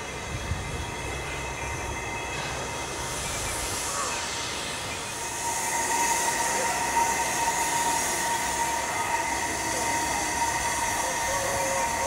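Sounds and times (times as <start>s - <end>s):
high ringing tone: 0.0s - 12.0s
steam locomotive hissing: 0.0s - 12.0s.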